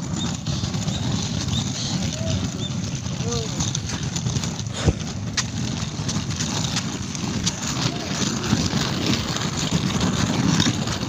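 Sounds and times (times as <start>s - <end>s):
rumbling wind: 0.0s - 11.0s.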